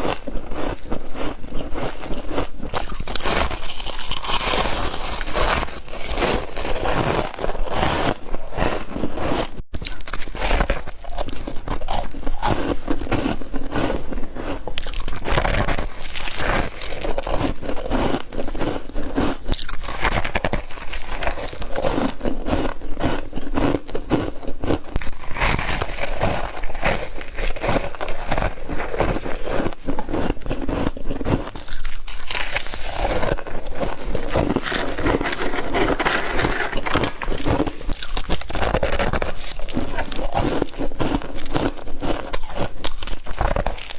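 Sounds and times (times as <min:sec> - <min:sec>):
frost crunching being chewed: 0:00.0 - 0:43.9.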